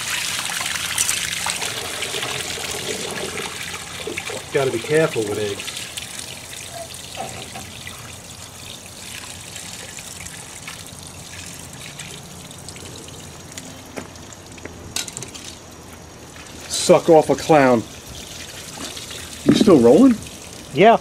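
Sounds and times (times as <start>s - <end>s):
water trickling onto wet concrete: 0.0s - 21.0s.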